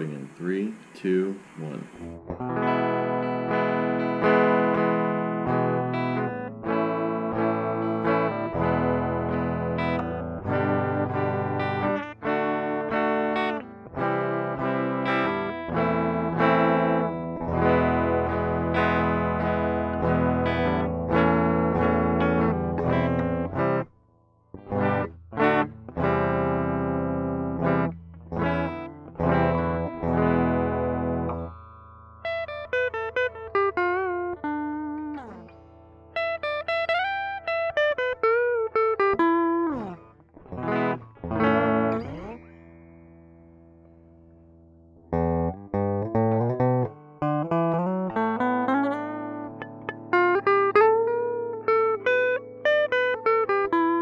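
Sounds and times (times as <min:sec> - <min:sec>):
electric guitar chords strummed: 0:00.0 - 0:54.0
electric guitar single notes: 0:00.0 - 0:54.0.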